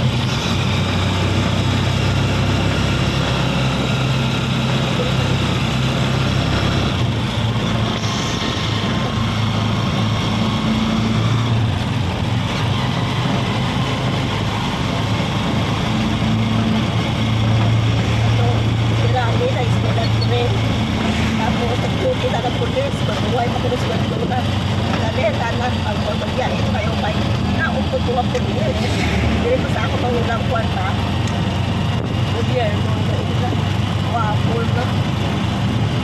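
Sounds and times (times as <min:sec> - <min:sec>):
road and wind noise: 0:00.0 - 0:36.0
vehicle engine running: 0:00.0 - 0:36.0.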